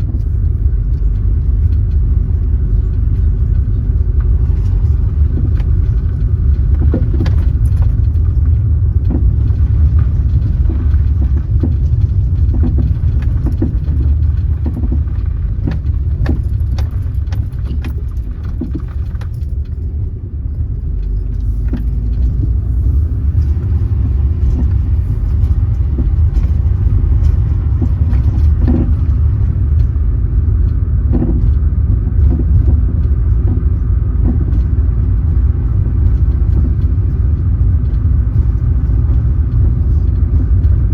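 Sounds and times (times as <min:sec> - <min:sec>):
car road and engine rumble: 0:00.0 - 0:40.9
small clicks and rattles: 0:00.0 - 0:40.9.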